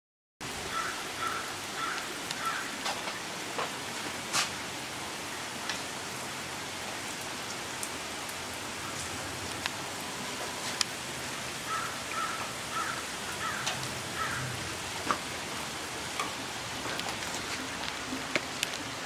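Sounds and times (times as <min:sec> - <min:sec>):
drips and splashes: 0:00.4 - 0:19.0
rain falling: 0:00.4 - 0:19.0.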